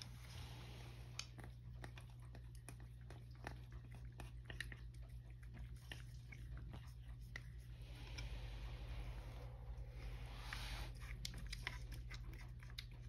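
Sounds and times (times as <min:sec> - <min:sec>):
cat chewing wet food: 0:00.0 - 0:13.0.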